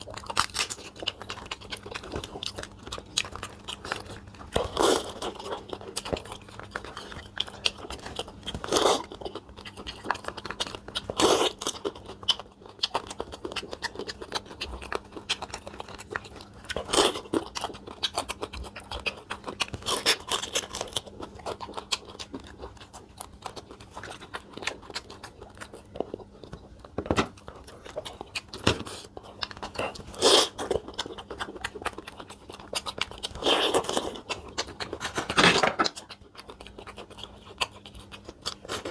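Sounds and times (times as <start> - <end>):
chewing: 0.0 - 38.9
crab shell crunching: 0.0 - 38.9.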